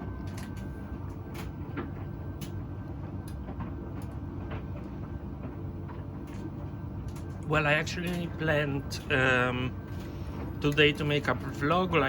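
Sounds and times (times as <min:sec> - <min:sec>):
washing machine drum humming: 0:00.0 - 0:12.0.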